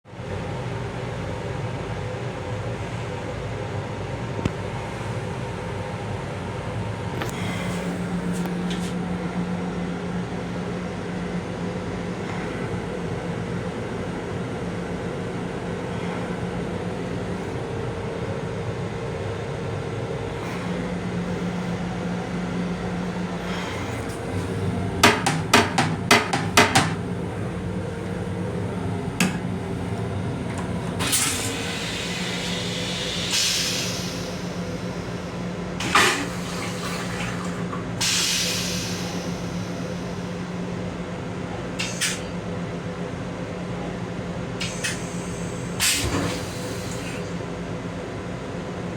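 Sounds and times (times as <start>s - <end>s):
railcar hum: 0.1s - 48.9s.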